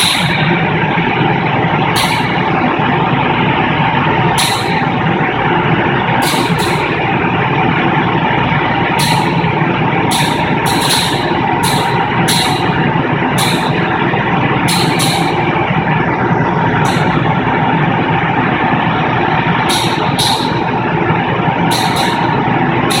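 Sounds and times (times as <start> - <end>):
furnace roaring: 0.0 - 23.0.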